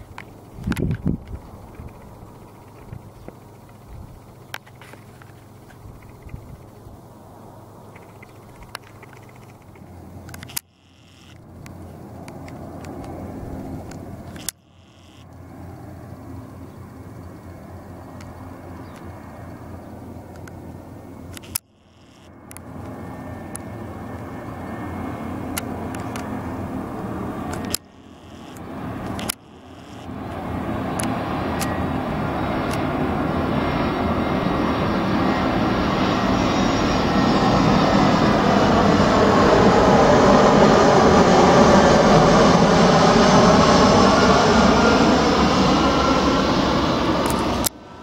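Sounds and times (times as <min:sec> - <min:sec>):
airliner engines roaring: 0:00.0 - 0:10.7, 0:11.3 - 0:48.0.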